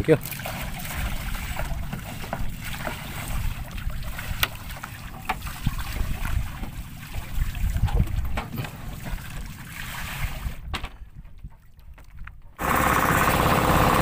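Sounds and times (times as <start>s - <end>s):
wind buffeting microphone: 0.6s - 12.6s.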